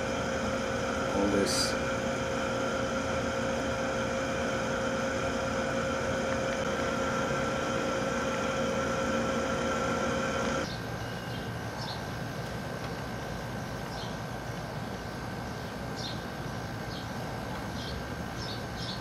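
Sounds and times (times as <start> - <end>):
machine hum with constant tones: 0.0 - 19.0.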